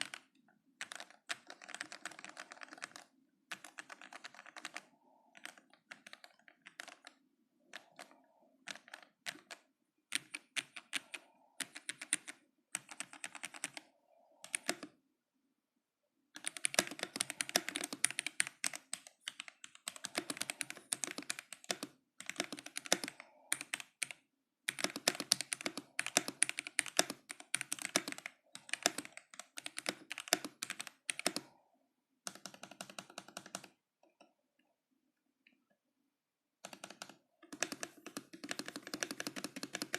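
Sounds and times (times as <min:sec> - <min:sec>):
mechanical keyboard typing: 0:00.0 - 0:14.9, 0:16.4 - 0:31.5, 0:32.2 - 0:33.8, 0:36.6 - 0:39.9.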